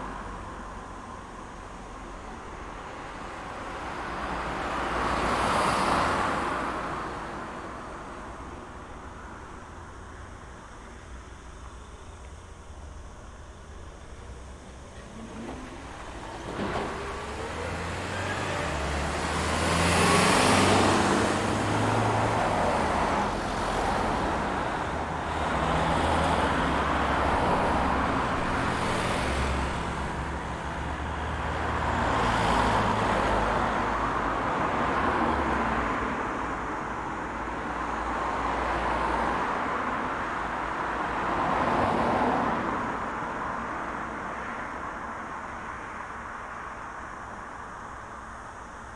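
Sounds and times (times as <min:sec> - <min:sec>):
engine rumble: 0:00.0 - 0:48.9
vehicles passing: 0:00.0 - 0:48.9.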